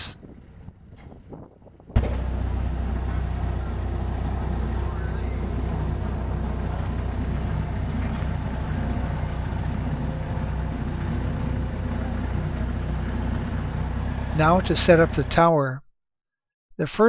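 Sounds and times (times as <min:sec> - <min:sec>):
diesel engine running: 0:00.0 - 0:15.5.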